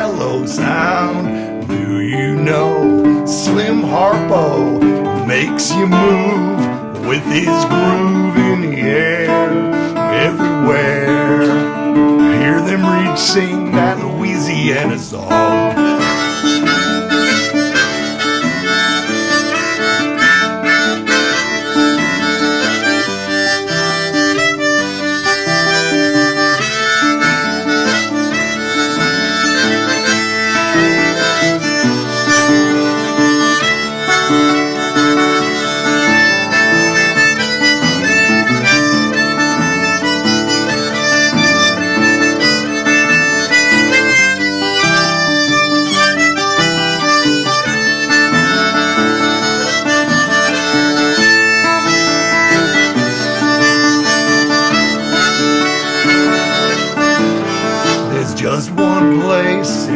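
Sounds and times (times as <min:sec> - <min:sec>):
harmonica playing chords: 0:00.0 - 0:59.9.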